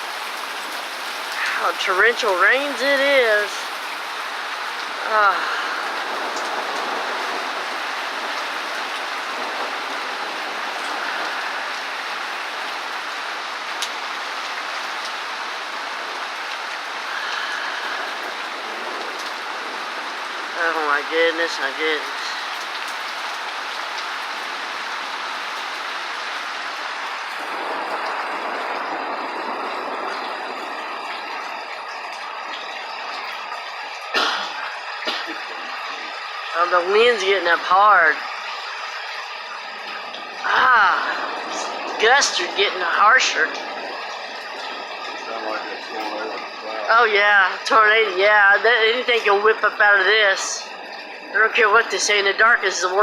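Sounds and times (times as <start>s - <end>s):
torrential rain: 0.0s - 53.0s.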